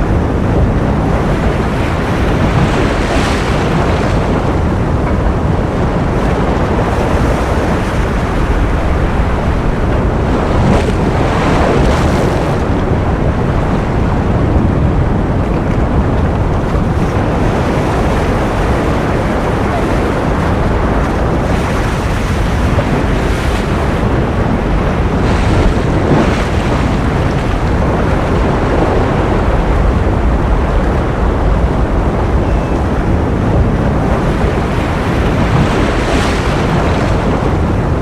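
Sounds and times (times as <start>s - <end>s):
ocean waves rushing: 0.0s - 38.0s.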